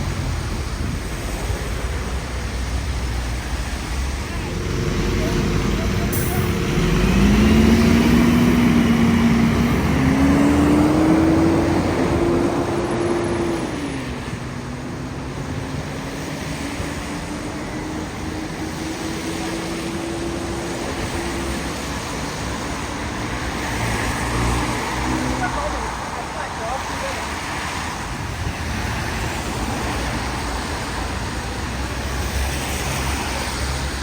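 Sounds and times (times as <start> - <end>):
bus engine accelerating: 0.0 - 34.0
street traffic: 0.0 - 34.0.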